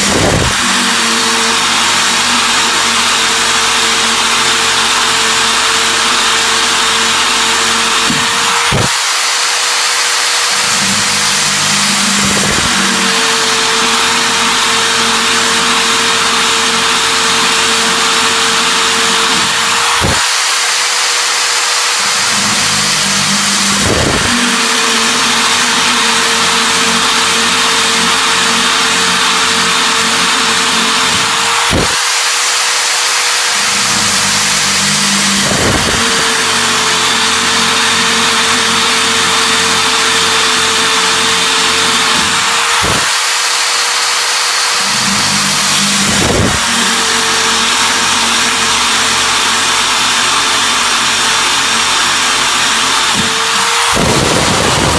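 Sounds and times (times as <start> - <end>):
power drill grinding: 0.0 - 54.9.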